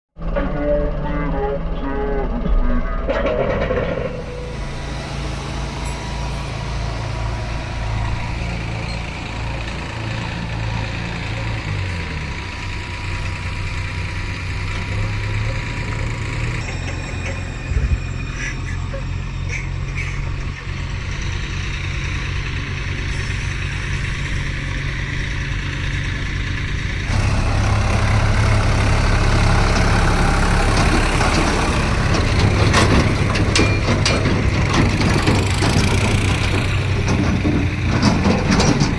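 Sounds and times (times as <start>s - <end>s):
heavy diesel engines running: 0.2s - 38.9s.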